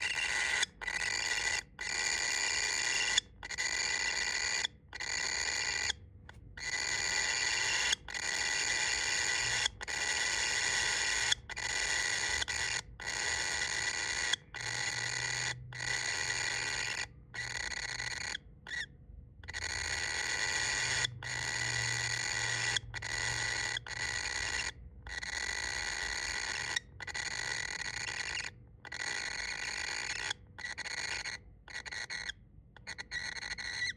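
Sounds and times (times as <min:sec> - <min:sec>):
baby bird calling: 0:00.0 - 0:33.9.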